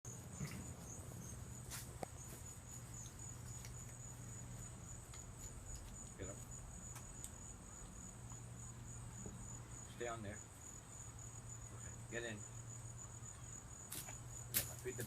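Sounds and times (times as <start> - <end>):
high-pitched insect trill: 0.1 - 15.0.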